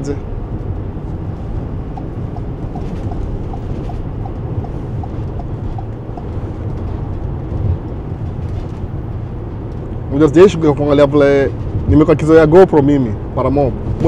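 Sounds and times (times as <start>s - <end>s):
engine and road noise in a van: 0.0s - 14.0s.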